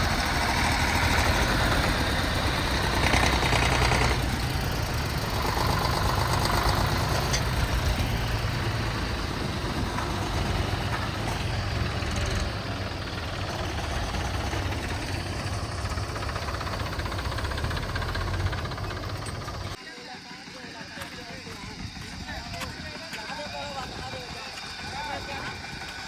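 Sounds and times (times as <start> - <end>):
diesel tractor engine drone: 0.0 - 26.0.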